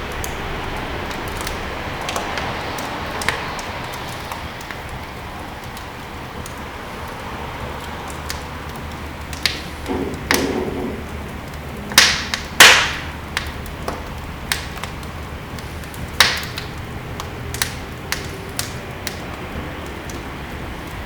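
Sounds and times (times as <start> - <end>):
loud fire pops: 0.0 - 21.0
low fire rumble: 0.0 - 21.0
wood fire crackling: 0.0 - 21.0.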